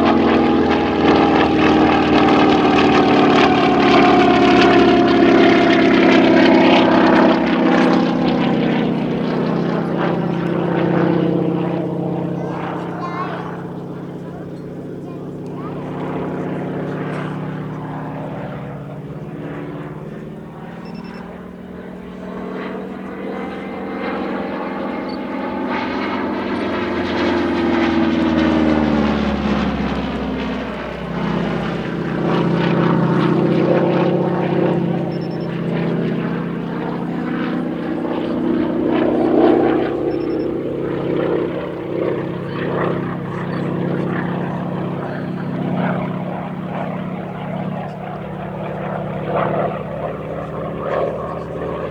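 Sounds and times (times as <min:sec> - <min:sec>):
radial engine and propeller: 0:00.0 - 0:51.9.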